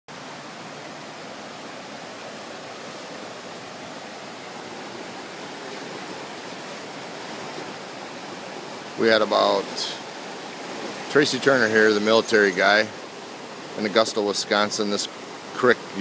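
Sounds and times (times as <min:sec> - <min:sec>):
flooded creek rushing: 0:00.1 - 0:16.0.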